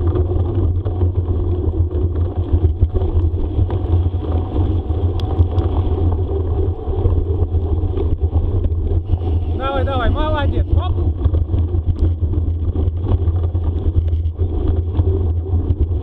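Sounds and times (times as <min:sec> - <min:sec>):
bicycle rolling on dirt trail: 0:00.0 - 0:16.0
bike rattling and clicking: 0:00.0 - 0:16.0
wind buffeting microphone: 0:00.0 - 0:16.0.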